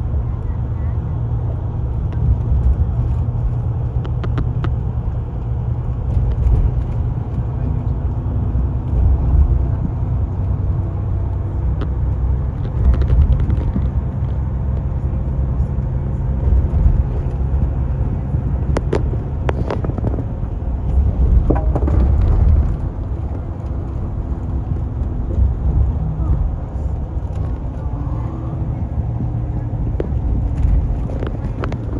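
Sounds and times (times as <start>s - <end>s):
bus engine and road rumble: 0.0s - 31.9s.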